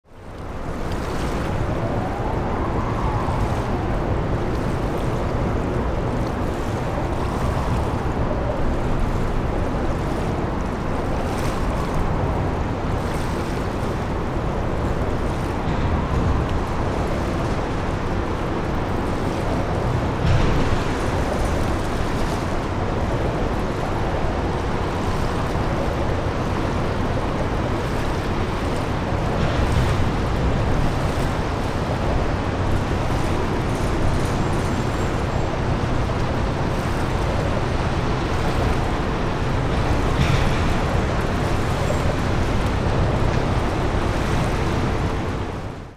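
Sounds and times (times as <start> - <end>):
rushing water: 0.0 - 45.9
wind: 0.0 - 45.9
ship engine rumble: 0.1 - 45.9.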